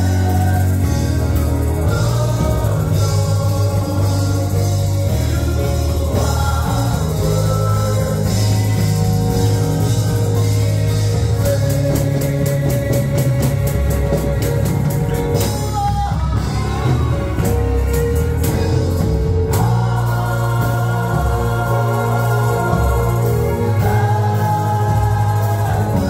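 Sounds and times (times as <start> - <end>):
gospel singing with band: 0.0 - 26.0.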